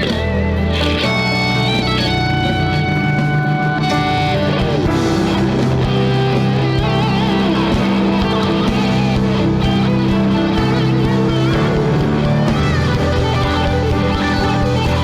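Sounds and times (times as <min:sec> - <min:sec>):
band backing music: 0:00.0 - 0:15.0
electric guitar solo: 0:00.0 - 0:15.0.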